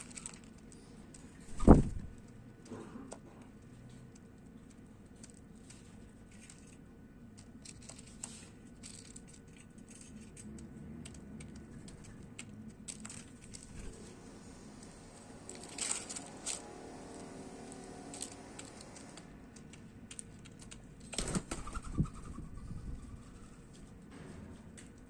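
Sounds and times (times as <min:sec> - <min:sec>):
birds cracking seeds: 0:00.0 - 0:21.8.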